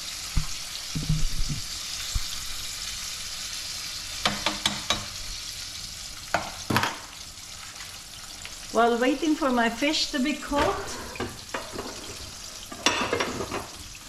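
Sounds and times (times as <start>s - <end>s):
fish deep-frying in oil: 0.0s - 14.0s.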